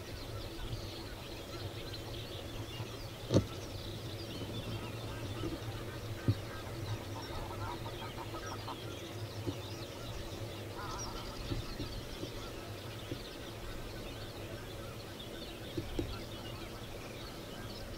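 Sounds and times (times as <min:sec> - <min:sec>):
lower clucking bird calls: 0:00.0 - 0:17.9
steady low hum: 0:00.0 - 0:17.9.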